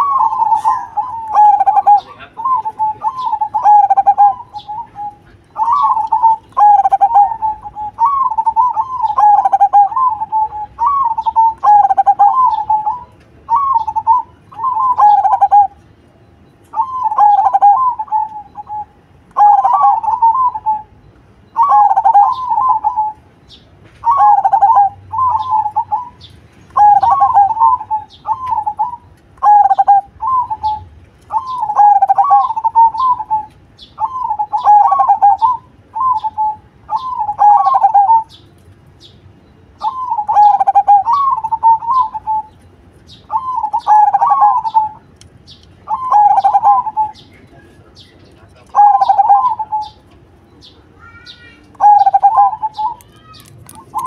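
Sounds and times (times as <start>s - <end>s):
dove cooing: 0.0s - 15.8s, 16.7s - 23.2s, 24.0s - 38.4s, 39.8s - 42.6s, 43.3s - 45.1s, 45.8s - 54.0s.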